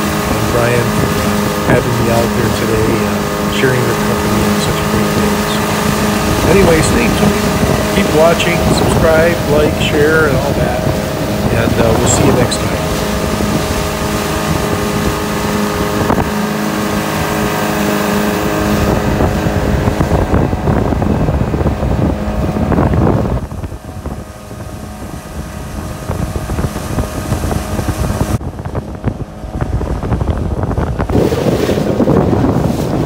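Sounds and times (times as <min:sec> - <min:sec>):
outboard motor running: 0:00.0 - 0:33.0
water rushing past hull: 0:00.0 - 0:33.0
wind on microphone: 0:00.0 - 0:33.0.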